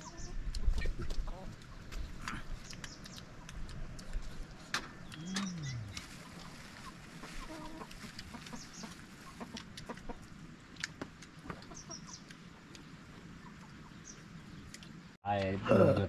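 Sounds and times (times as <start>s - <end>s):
chickens clucking: 0.0s - 14.7s.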